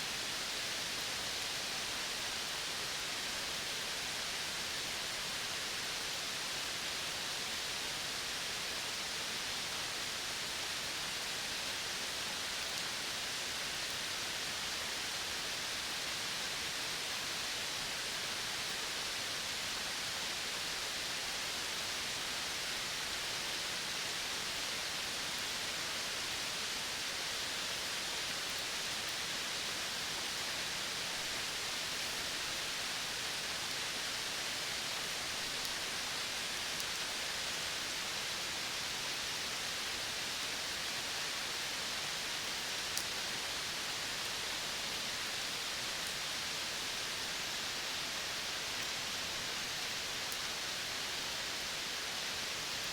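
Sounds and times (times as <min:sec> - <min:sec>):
outdoor ambience hiss: 0:00.0 - 0:52.9.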